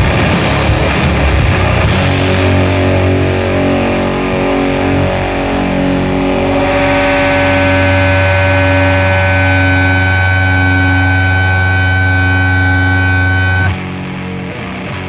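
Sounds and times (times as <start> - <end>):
doom metal with distorted guitars: 0.0 - 15.0
low bass drone: 0.0 - 15.0.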